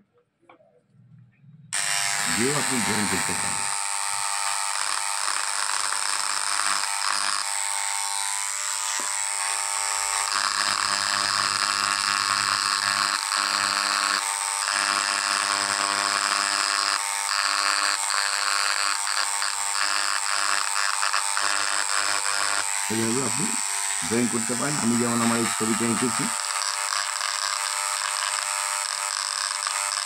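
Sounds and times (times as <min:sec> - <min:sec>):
engraving tool grinding glass: 0:01.8 - 0:30.0.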